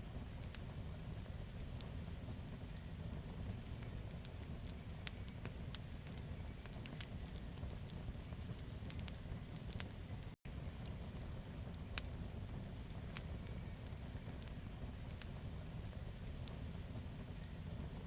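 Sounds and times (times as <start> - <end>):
campfire flames rumbling: 0.0 - 18.0
wood crackling and popping: 0.0 - 18.0.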